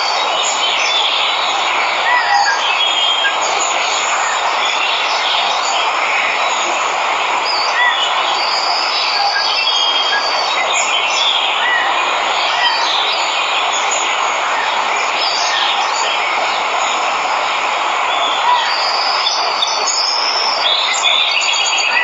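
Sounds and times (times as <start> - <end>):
birds chirping: 0.0 - 22.0
waterfall rushing: 0.0 - 22.0.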